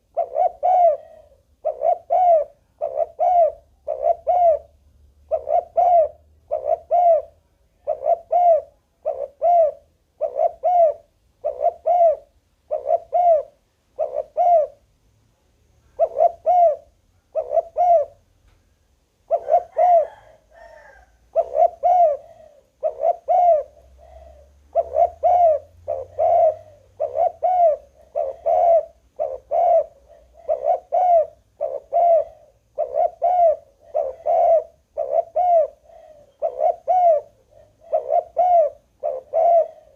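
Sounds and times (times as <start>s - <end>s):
dove cooing: 0.0s - 14.8s, 15.8s - 18.3s, 19.2s - 39.9s.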